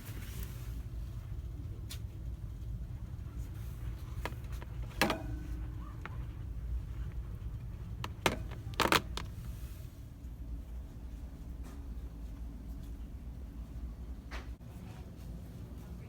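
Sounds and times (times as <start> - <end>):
store ambience hum: 0.0 - 16.0.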